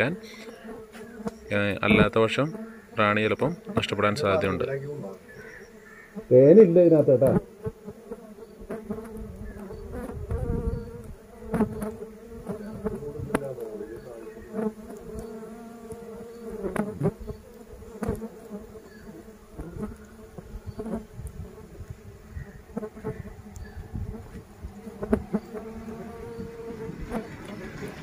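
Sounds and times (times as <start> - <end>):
bees buzzing: 0.0 - 28.0
bees droning past: 0.0 - 28.0.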